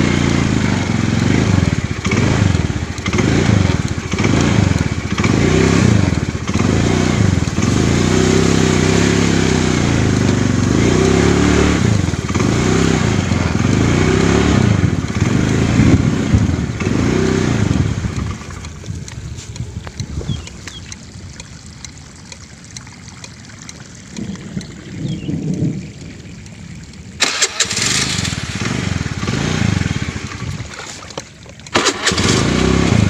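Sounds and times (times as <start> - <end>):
small motorcycle engine revving: 0.0 - 21.0, 27.2 - 33.0.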